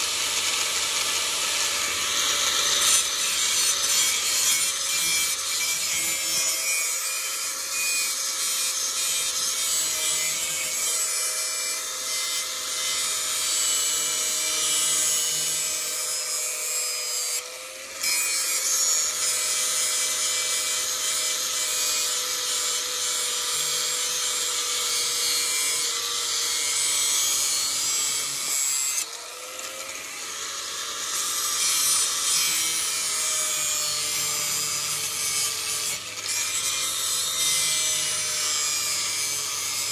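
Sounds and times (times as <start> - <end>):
grinder motor humming: 0.0 - 39.9.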